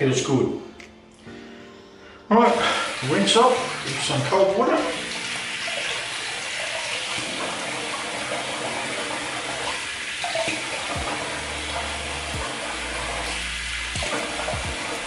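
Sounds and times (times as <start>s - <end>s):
water running from tap into sink: 2.4s - 15.0s.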